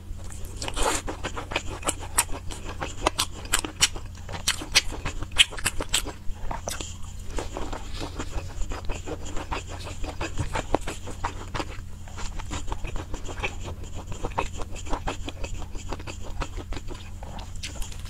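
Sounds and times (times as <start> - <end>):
steady low hum: 0.0 - 18.0
wet chewing mouth clicks: 0.2 - 18.0.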